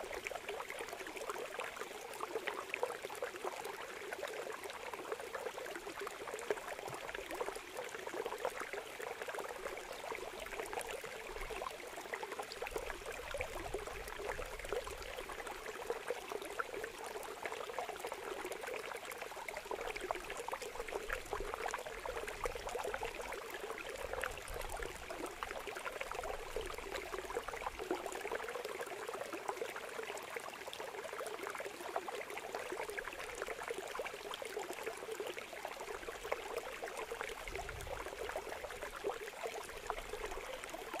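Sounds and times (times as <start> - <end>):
water pouring and trickling: 0.0 - 41.0.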